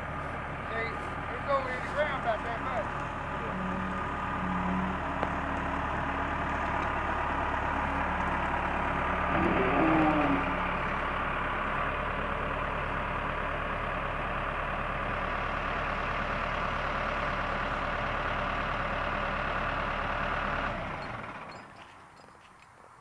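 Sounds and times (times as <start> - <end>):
diesel engine idling: 0.0 - 21.8.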